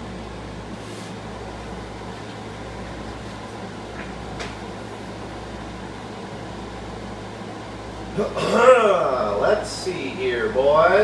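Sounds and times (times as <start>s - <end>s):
fan hiss and low hum: 0.0s - 11.0s.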